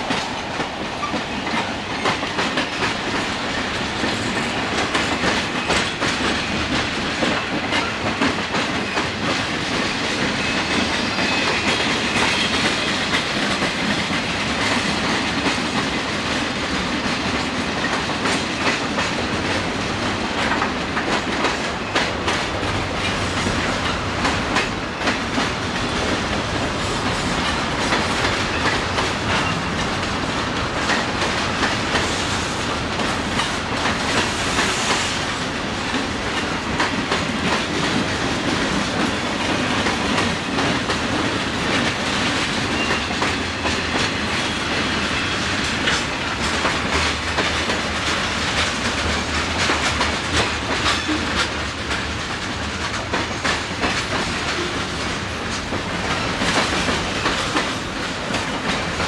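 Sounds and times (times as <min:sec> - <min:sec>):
freight train wheels clicking on rail joints: 0:00.0 - 0:59.0.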